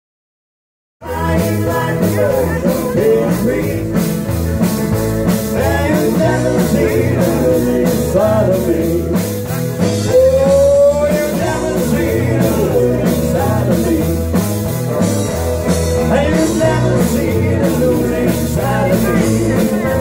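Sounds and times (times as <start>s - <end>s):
bass guitar: 1.0s - 20.0s
drum kit beat: 1.0s - 20.0s
electric guitar: 1.0s - 20.0s
keyboards: 1.0s - 20.0s.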